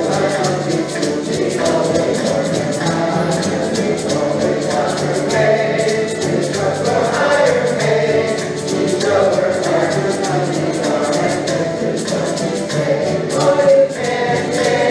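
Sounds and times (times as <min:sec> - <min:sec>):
group singing in unison: 0:00.0 - 0:14.9
strummed acoustic guitars: 0:00.0 - 0:14.9.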